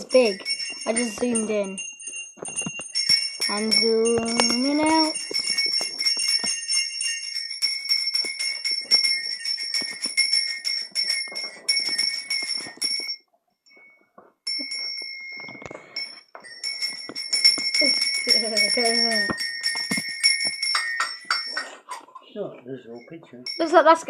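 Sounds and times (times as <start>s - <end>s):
small bell jangling: 0.0s - 22.0s, 22.9s - 24.0s.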